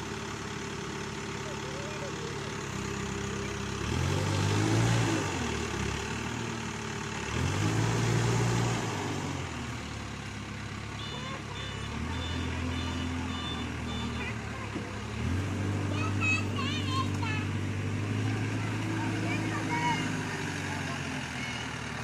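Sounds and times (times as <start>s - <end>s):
diesel engine revving and idling: 0.0s - 22.0s.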